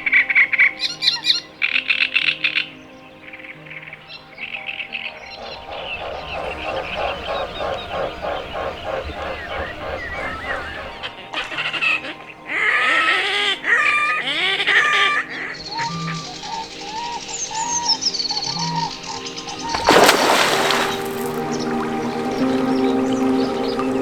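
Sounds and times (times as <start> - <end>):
geese honking: 3.7 - 24.0.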